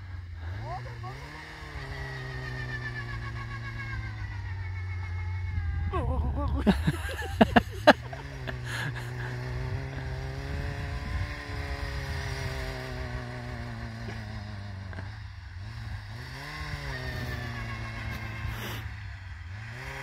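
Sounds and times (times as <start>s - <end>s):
car engine running under load: 0.0s - 5.9s, 6.7s - 20.0s
steady low drone: 0.0s - 20.0s.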